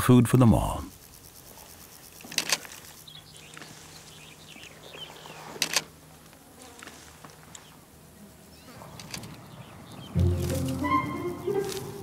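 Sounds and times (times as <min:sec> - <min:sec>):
insect buzzing: 0:00.8 - 0:12.0.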